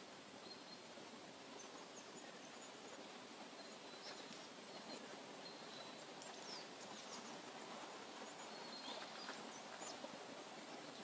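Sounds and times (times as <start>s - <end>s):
soft steady hiss: 0.0s - 11.0s
birds chirping: 0.3s - 11.0s.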